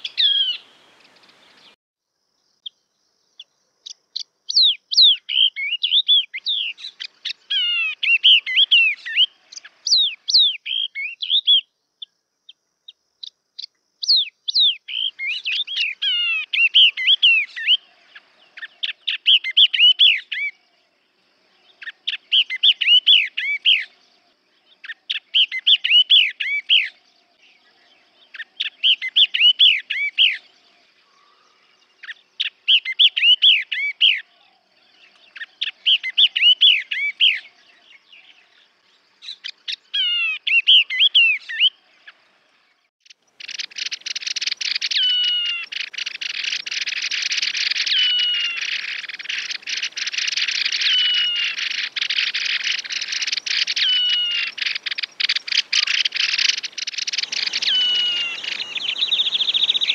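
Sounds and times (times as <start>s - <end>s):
bird singing whistled notes: 0.0s - 1.8s, 2.6s - 20.7s, 21.5s - 59.9s.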